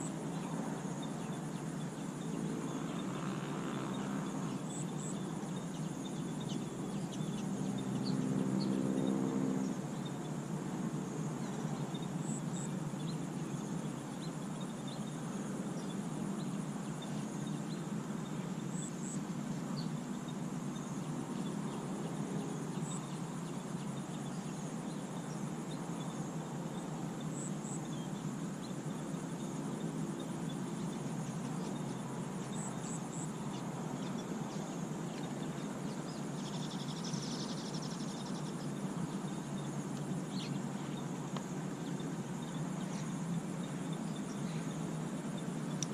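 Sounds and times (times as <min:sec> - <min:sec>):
high insect drone: 0:00.0 - 0:45.9.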